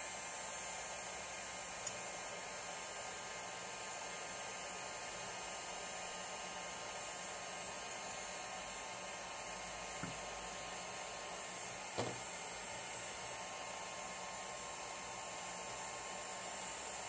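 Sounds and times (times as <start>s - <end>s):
hot-air tool hissing with whine: 0.0s - 17.0s.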